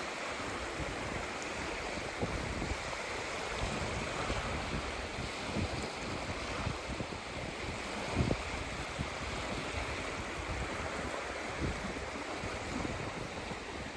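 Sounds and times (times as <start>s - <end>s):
sea surf on beach: 0.0s - 13.9s
wind buffeting microphone: 0.4s - 13.9s.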